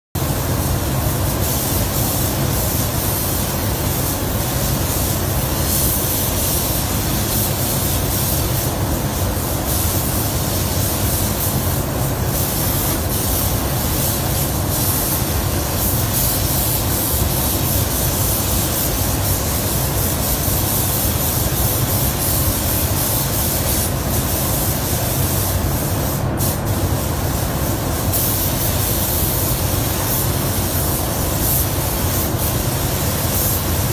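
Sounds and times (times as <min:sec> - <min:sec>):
paint spray guns hissing: 0:00.2 - 0:33.9.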